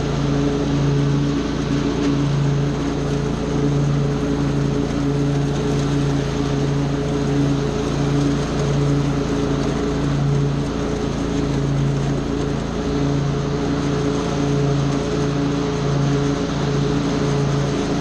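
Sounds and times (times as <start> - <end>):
small gasoline engine running: 0.0 - 18.0.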